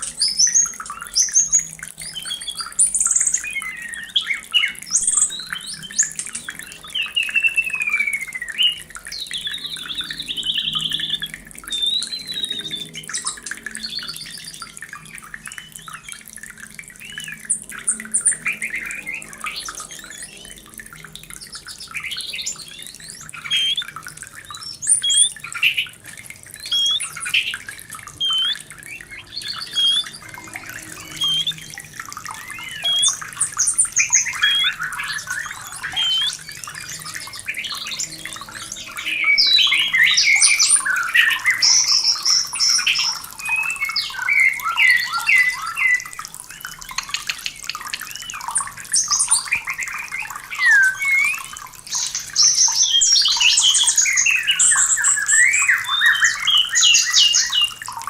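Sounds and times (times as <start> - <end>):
bird singing whistles and chatter: 0.0 - 16.2, 21.4 - 46.2, 46.8 - 57.9.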